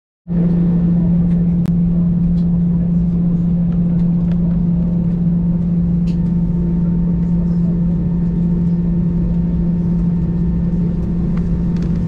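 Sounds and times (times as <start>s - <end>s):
airplane engines droning in cabin: 0.3s - 12.0s.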